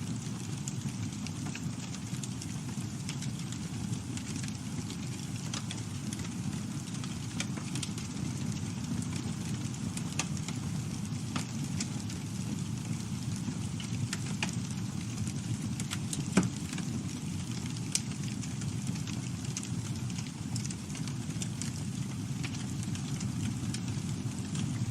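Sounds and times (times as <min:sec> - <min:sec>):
campfire crackling and popping: 0:00.1 - 0:24.9.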